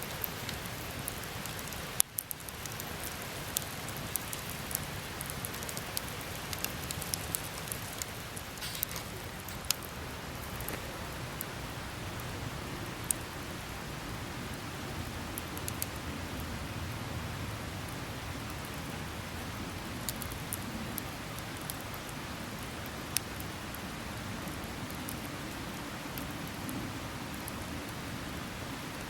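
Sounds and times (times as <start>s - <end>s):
fire crackling and popping: 0.0s - 12.2s, 13.0s - 13.4s, 15.2s - 16.6s, 17.8s - 29.0s
campfire hissing: 0.0s - 29.0s.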